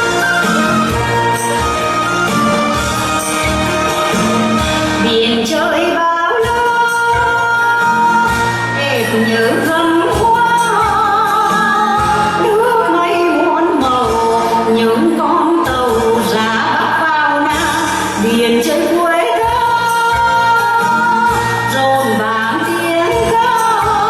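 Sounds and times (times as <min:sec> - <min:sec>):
instrumental accompaniment with beat: 0:00.0 - 0:24.0
person singing with vibrato: 0:00.0 - 0:24.0.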